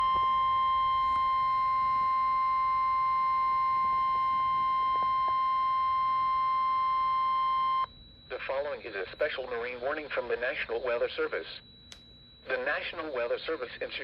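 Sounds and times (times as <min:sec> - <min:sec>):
steady alarm tone: 0:00.0 - 0:14.0.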